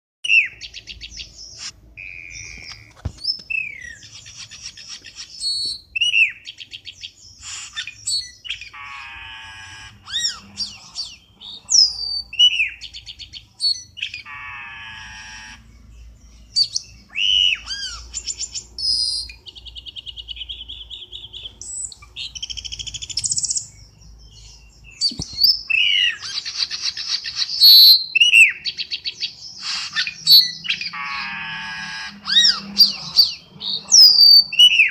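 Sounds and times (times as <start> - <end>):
bird call chirps and whistles: 0.2 - 15.9, 16.5 - 34.9.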